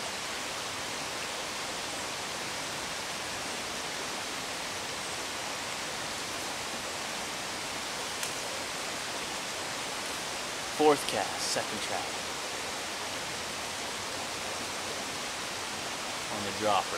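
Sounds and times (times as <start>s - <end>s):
stream water flowing: 0.0s - 16.9s.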